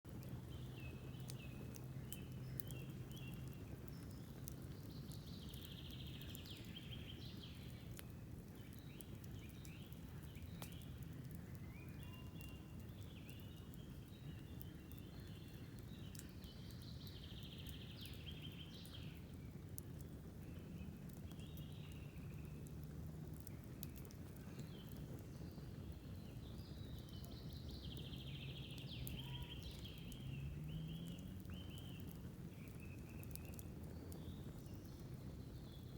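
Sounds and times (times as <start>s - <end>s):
campfire crackling and popping: 0.0s - 35.9s
songbird chirping: 0.1s - 35.9s.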